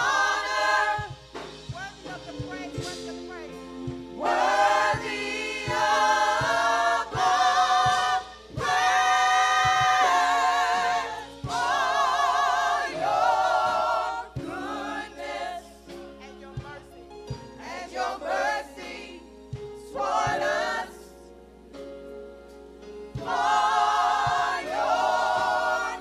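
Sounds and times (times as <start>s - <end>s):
women singing gospel: 0.0s - 2.2s, 4.1s - 21.4s, 23.0s - 26.0s
steady beat: 0.0s - 20.9s, 23.2s - 26.0s.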